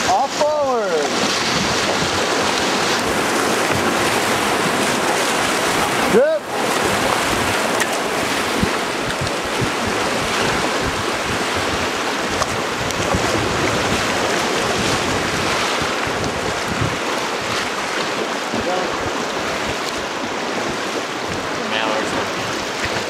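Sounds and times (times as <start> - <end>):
river water rushing: 0.0 - 23.0
wind buffeting microphone: 0.0 - 23.0.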